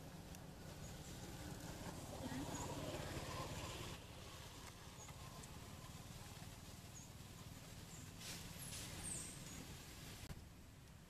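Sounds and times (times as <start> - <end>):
rustle: 0.0 - 11.0.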